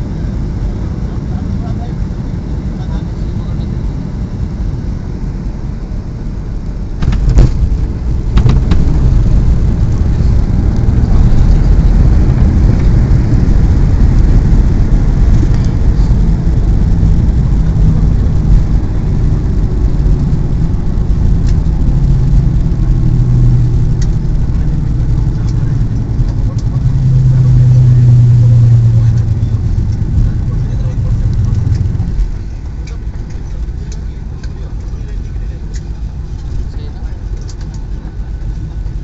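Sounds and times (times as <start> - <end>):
airliner deep rumble: 0.0 - 39.0.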